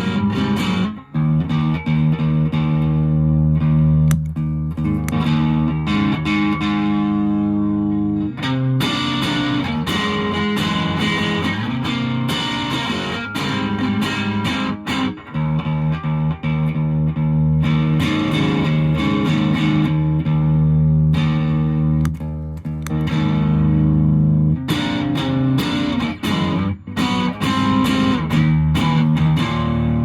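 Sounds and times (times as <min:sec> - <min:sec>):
distorted electric guitar chords: 0:00.0 - 0:30.0.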